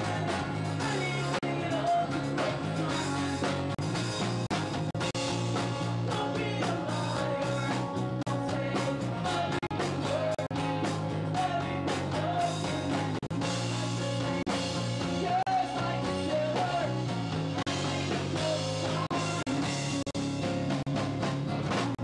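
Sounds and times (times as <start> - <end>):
man singing: 0.0 - 3.8, 5.6 - 19.9
strummed guitars: 0.0 - 22.0.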